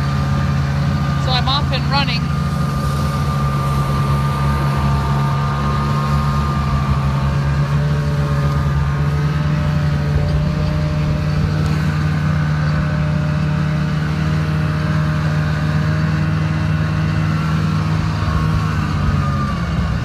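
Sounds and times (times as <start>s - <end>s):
snowmobile engine droning: 0.0s - 20.0s.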